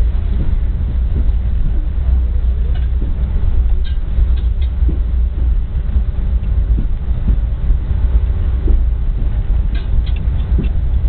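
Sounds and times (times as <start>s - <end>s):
train wheels rumbling on rail: 0.0s - 11.0s
wind: 0.0s - 11.0s.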